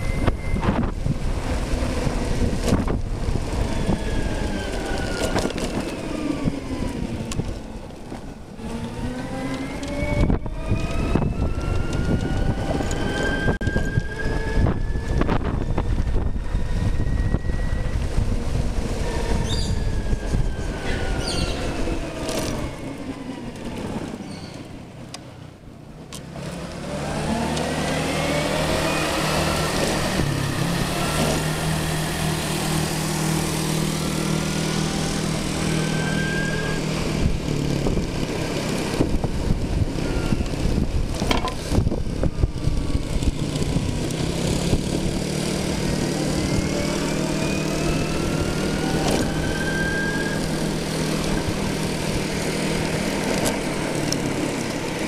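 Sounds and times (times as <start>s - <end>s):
electric scooter motor whine: 0.0s - 25.6s, 26.7s - 55.0s
wind and road noise: 0.0s - 55.0s.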